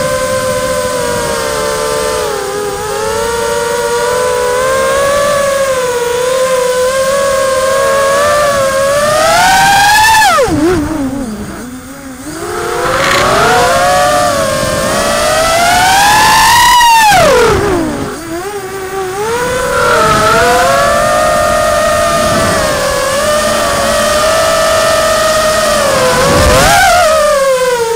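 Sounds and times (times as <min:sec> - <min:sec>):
drone motors whining: 0:00.0 - 0:27.9.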